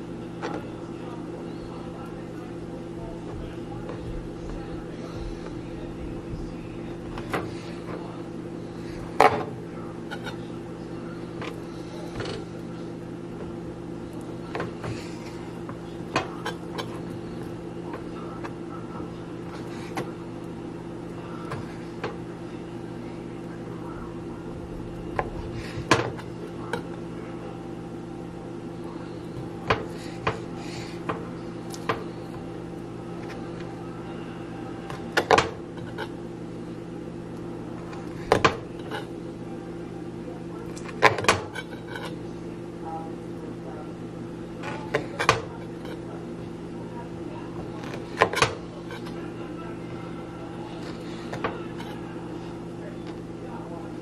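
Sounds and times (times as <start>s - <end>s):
low appliance hum: 0.0s - 54.0s.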